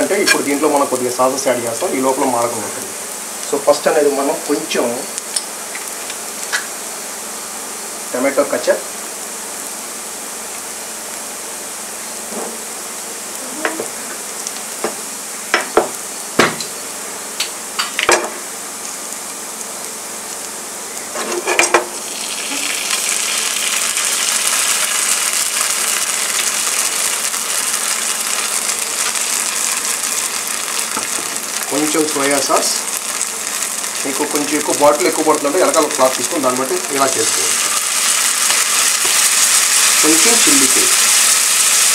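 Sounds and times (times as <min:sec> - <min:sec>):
food frying in oil: 0:00.0 - 0:41.9.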